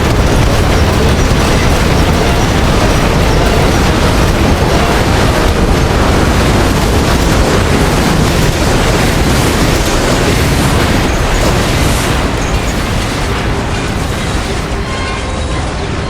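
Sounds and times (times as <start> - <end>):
loud steady blast of noise: 0.0 - 16.0.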